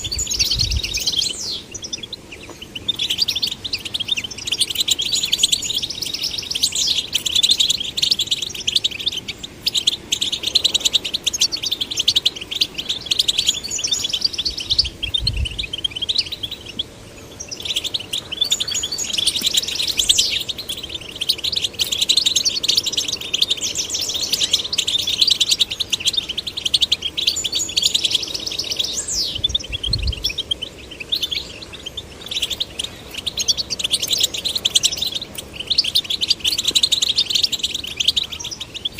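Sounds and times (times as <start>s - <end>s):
finch twittering song: 0.0s - 38.9s.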